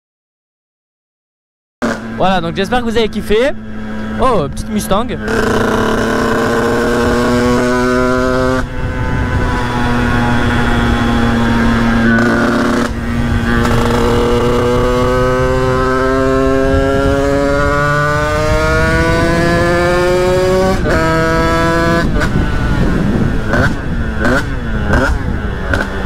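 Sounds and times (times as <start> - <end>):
two-stroke motorcycle accelerating: 1.8 - 26.0.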